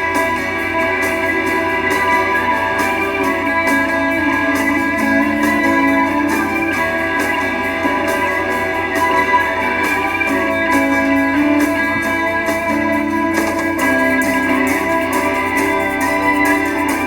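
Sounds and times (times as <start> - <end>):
band backing: 0.0 - 17.0
guitar playing: 0.0 - 17.0.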